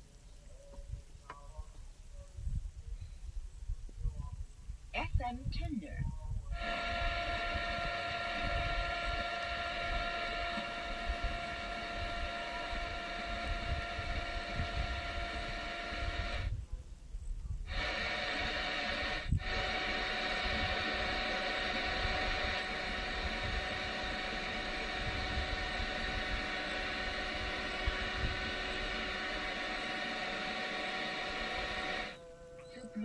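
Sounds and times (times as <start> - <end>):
radio static hiss with whine: 0.0 - 33.0.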